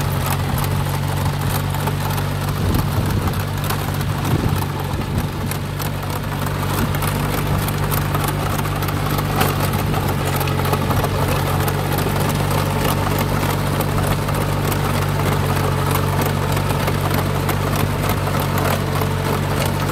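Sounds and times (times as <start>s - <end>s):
tractor engine under load: 0.0s - 19.9s.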